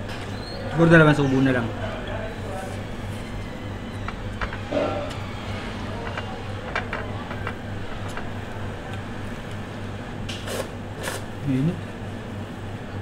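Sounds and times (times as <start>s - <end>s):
restaurant room hum: 0.0s - 13.0s.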